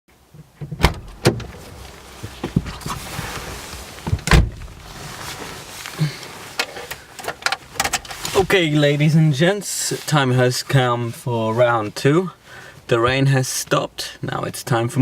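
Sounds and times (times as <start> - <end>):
low rustling: 0.6 - 13.2.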